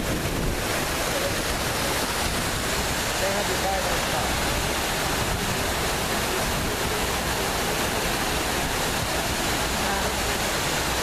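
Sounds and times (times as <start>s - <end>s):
water pouring down walls: 0.0s - 11.0s.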